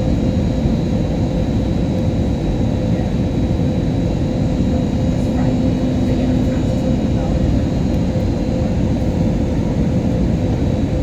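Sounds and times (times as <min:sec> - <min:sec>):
airliner engine rumble: 0:00.0 - 0:11.0
steady hum: 0:00.0 - 0:11.0.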